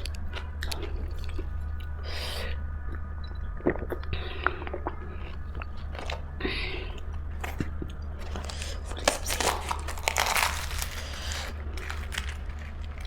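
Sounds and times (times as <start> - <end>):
crunching bites and chewing: 0.0 - 2.0, 2.8 - 13.0.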